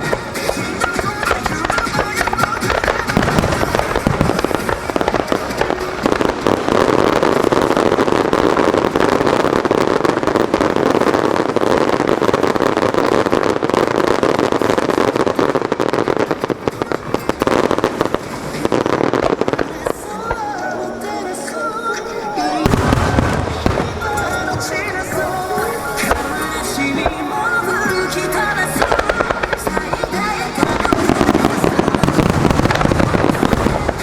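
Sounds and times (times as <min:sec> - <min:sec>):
fireworks booms: 0:00.0 - 0:34.0
fireworks crackling: 0:00.0 - 0:34.0.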